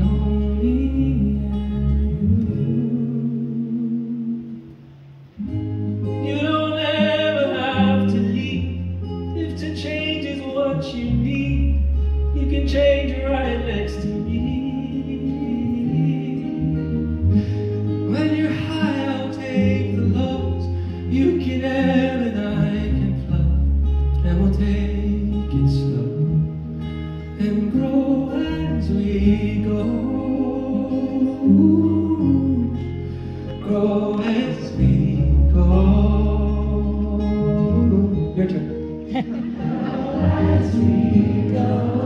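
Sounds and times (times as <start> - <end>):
man singing a ballad: 0.0 - 4.6, 6.1 - 17.0, 18.1 - 26.3, 27.4 - 42.0
guitar: 0.0 - 42.0.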